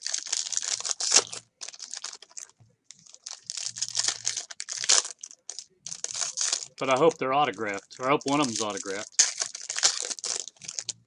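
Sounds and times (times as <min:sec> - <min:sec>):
foil wrappers crinkling and tearing: 0:00.0 - 0:11.0.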